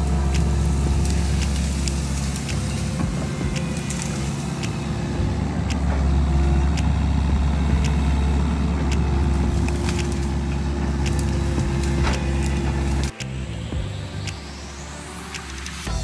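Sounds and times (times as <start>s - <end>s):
sharp clicks and snaps: 0.0s - 14.6s
tractor engine running: 0.0s - 14.8s.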